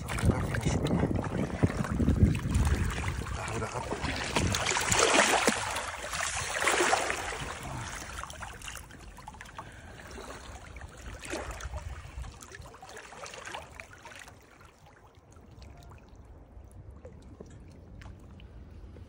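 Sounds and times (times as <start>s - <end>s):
fish splashing in shallow water: 0.0s - 18.7s.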